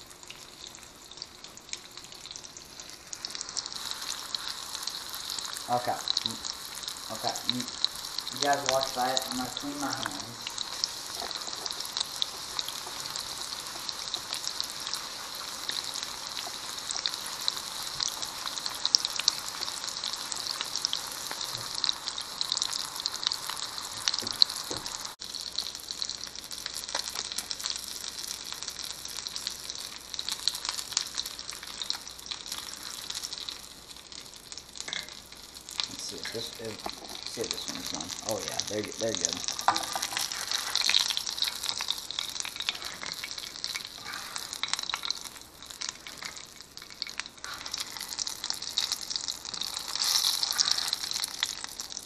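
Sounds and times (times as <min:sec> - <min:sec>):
fish frying in hot oil: 0:00.0 - 0:52.0.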